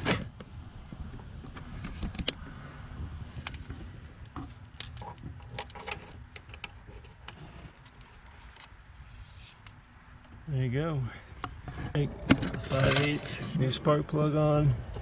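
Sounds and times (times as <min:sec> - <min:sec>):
low rumble of handling noise: 0:00.0 - 0:15.0.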